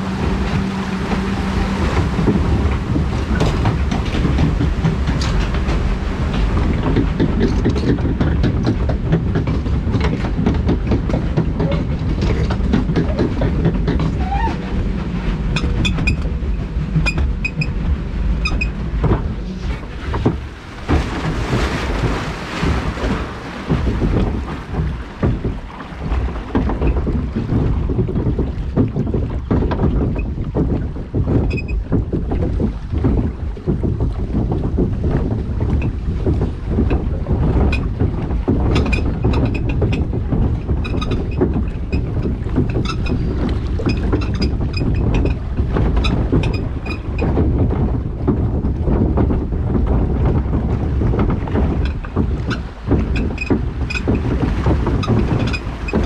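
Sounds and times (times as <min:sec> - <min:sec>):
water ride boat gliding: 0:00.0 - 0:56.0
wind buffeting microphone: 0:00.0 - 0:56.0.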